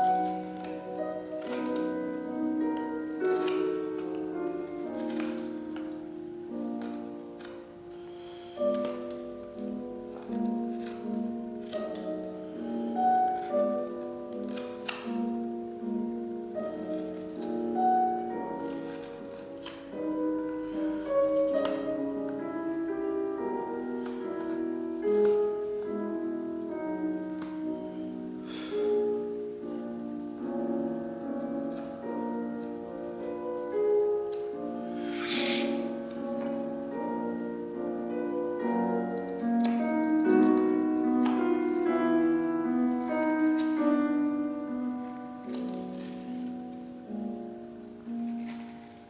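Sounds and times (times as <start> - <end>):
instrumental background music: 0.0 - 49.0.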